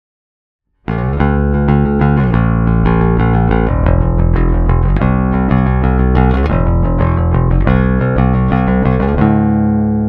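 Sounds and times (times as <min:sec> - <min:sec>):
electric bass guitar riff: 0:00.8 - 0:10.0.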